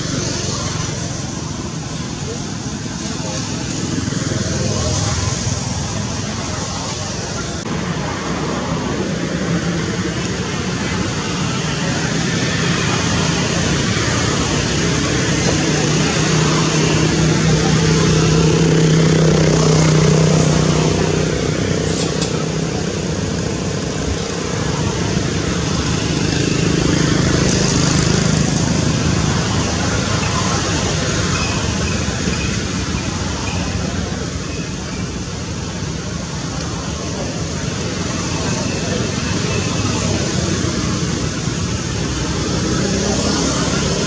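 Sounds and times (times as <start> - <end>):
vehicle engine humming: 0.0 - 44.0.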